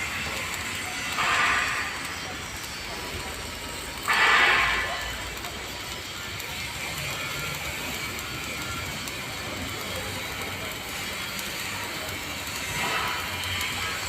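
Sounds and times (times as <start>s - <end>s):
welding arc crackling: 0.0s - 14.0s.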